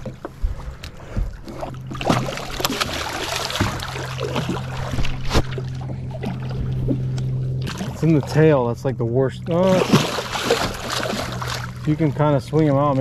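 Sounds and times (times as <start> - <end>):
fish thrashing and splashing: 0.0 - 8.4, 9.4 - 12.2
steady low hum: 0.0 - 13.0.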